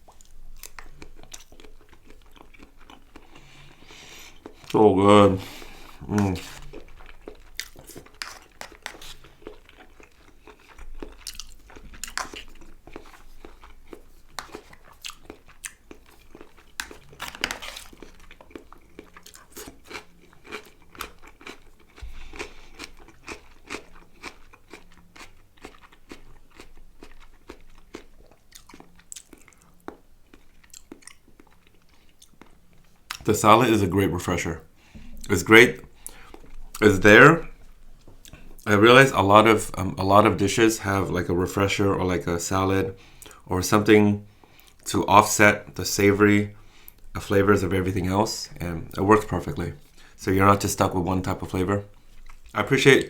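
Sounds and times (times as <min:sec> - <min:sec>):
chewing and crunching food: 0:00.0 - 0:33.5, 0:34.2 - 0:53.0.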